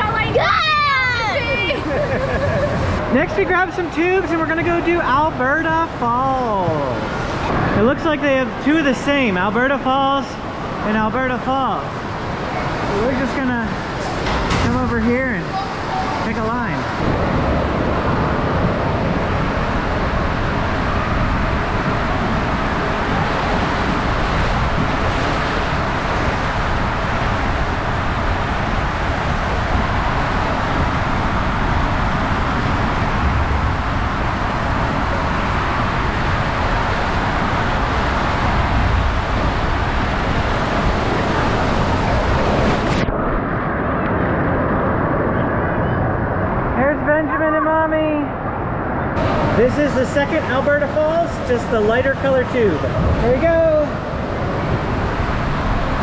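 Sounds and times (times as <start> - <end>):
water rushing under raft: 0.0 - 45.2, 48.6 - 56.0.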